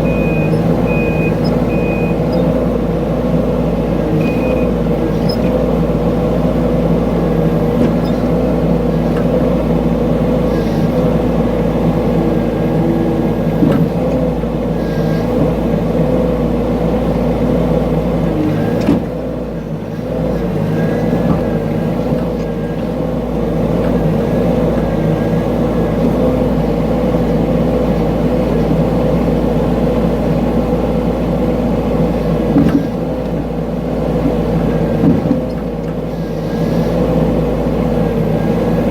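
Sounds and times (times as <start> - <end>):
excavator engine running under load: 0.0 - 38.9
hydraulic whine: 0.0 - 38.9.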